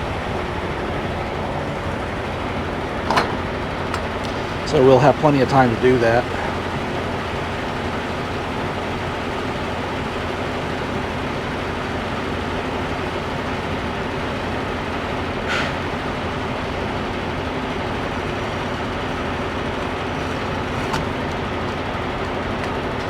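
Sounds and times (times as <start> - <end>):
diesel engine and road noise: 0.0 - 23.0.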